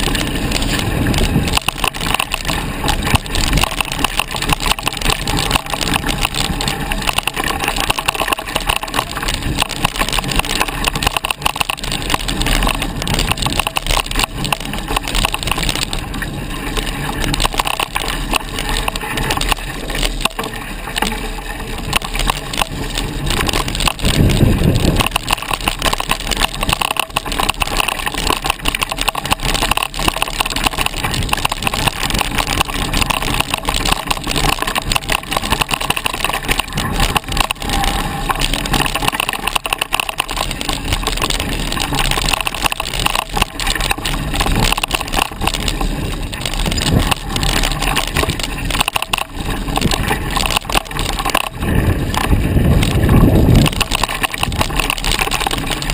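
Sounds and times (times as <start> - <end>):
mountain bike rattling on dirt trail: 0.0 - 55.9
small clicks and knocks: 0.0 - 55.9
wind on microphone: 0.0 - 55.9.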